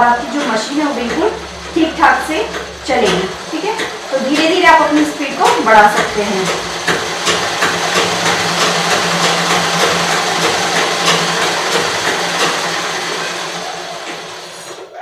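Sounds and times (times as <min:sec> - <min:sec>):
low hum: 0:00.0 - 0:12.5
sewing machine clattering: 0:00.0 - 0:15.0.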